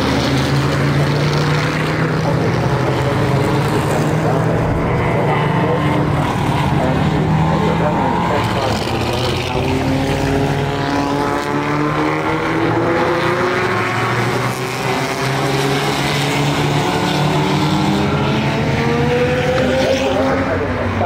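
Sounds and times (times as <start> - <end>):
racing car engines accelerating: 0.0 - 21.0.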